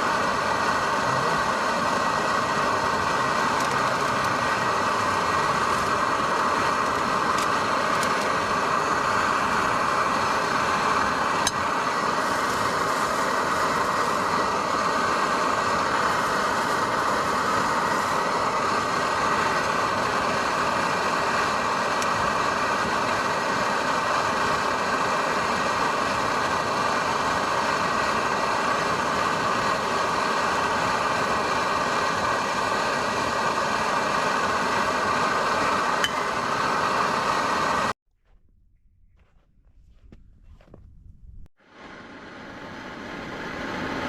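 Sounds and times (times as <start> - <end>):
dense hissing noise: 0.0 - 37.9
faint hum: 0.0 - 44.0.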